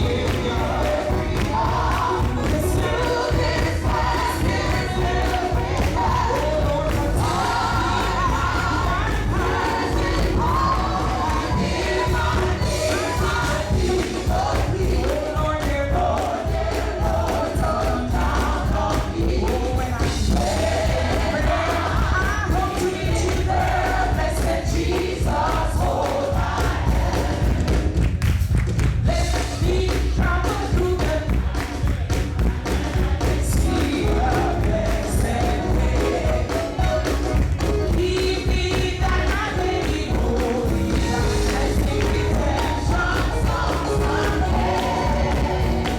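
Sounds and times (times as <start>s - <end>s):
band with heavy bass and drums: 0.0s - 45.9s
group of voices singing: 0.0s - 45.9s.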